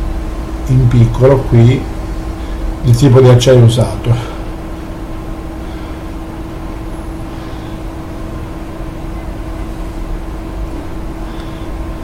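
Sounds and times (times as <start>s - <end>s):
low background hum and rumble: 0.0s - 12.0s.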